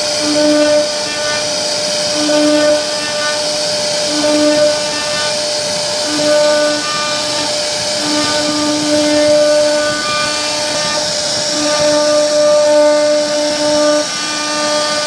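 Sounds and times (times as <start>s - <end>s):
low machine hum: 0.0s - 15.0s
router spindle whine and hiss: 0.0s - 15.0s.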